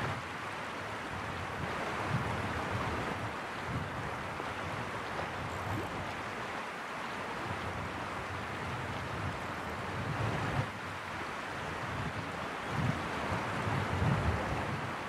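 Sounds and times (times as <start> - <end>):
wind buffeting microphone: 1.1 - 6.3, 7.4 - 11.0, 11.6 - 15.0.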